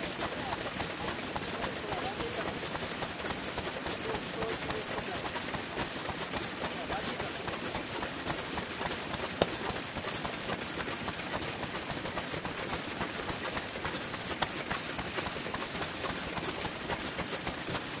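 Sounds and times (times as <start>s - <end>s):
stationary engines running: 0.0s - 18.0s.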